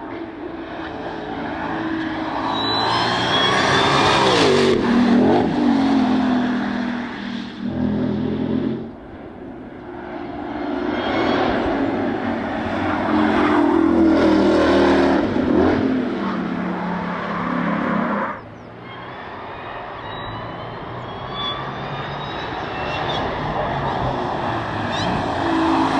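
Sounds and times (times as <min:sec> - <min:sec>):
race car engine at full speed: 0:00.0 - 0:25.9.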